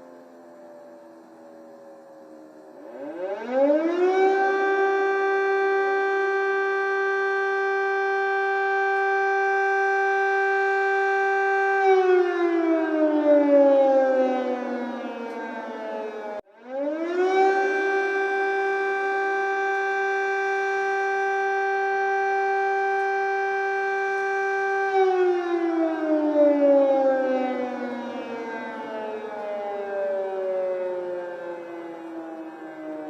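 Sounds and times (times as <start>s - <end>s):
air raid siren wailing: 0.0s - 33.0s.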